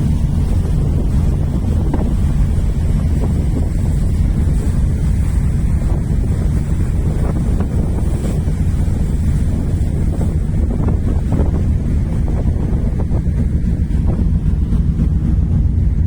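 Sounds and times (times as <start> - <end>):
constant low rumble: 0.0 - 16.0
wind buffeting microphone: 0.0 - 16.0.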